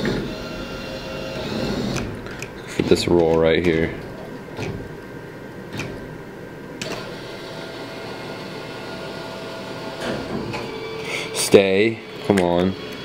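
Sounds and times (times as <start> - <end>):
claw crane motors running: 0.0 - 13.0
steady background hum: 0.0 - 13.0.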